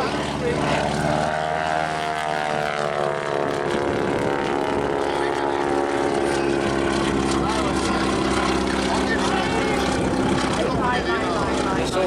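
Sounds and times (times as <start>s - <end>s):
biplane engine droning past: 0.0s - 12.0s.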